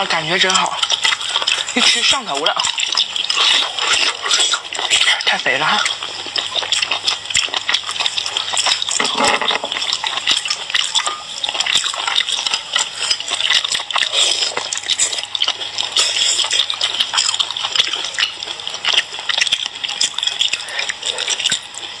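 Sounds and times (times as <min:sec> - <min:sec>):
wet chewing and slurping: 0:00.0 - 0:22.0.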